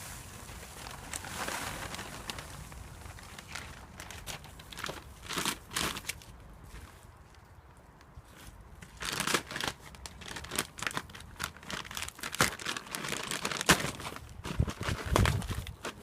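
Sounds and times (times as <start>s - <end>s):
rustling scraping and crunching: 0.0s - 7.5s, 8.1s - 16.0s.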